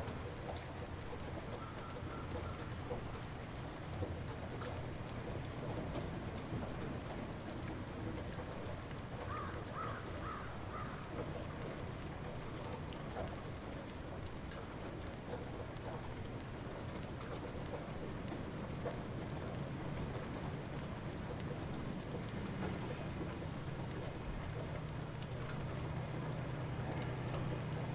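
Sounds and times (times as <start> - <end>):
light rain pattering: 0.0 - 27.9.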